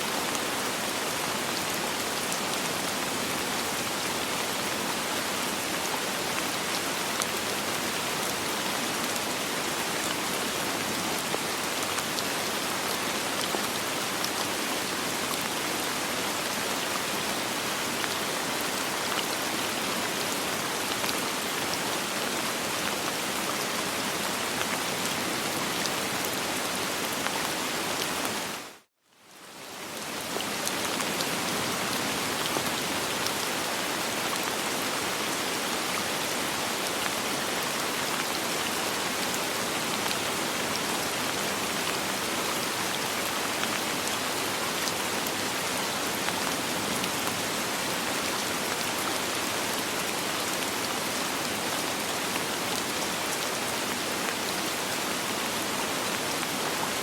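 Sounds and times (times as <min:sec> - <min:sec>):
soft rain: 0:00.0 - 0:57.0.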